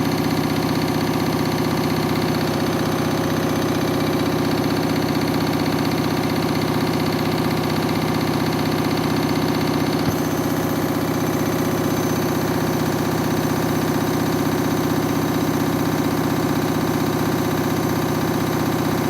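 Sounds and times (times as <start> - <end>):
washing machine drum spinning: 0.0 - 19.0.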